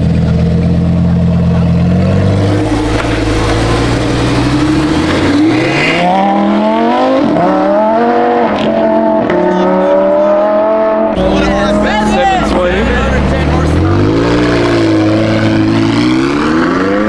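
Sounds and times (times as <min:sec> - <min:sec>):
sports car engine revving: 0:00.0 - 0:17.0.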